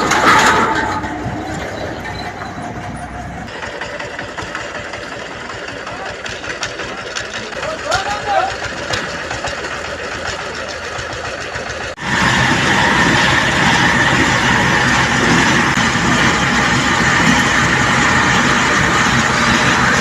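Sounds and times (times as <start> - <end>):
engine with high whine: 0.0 - 20.0
machinery engine running: 0.0 - 20.0.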